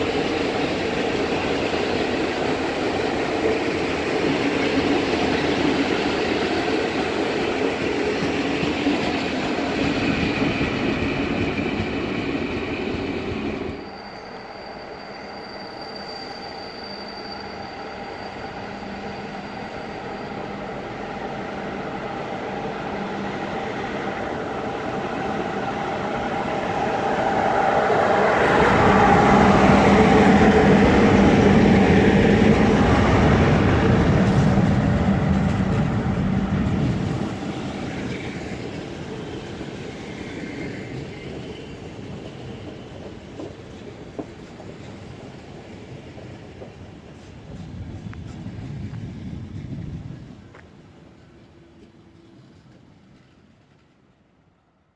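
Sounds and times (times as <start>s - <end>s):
train passing by: 0.0s - 54.9s.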